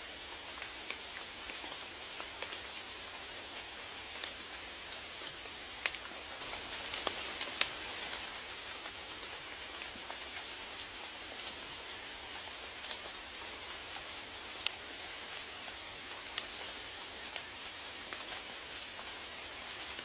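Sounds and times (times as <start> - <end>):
rain hiss: 0.0 - 20.0
raindrops ticking on a surface: 0.0 - 20.0.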